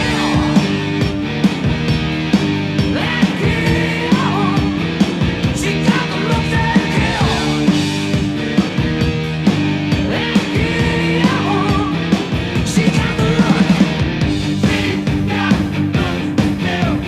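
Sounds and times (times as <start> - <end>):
rock music with drum beat: 0.0 - 17.0.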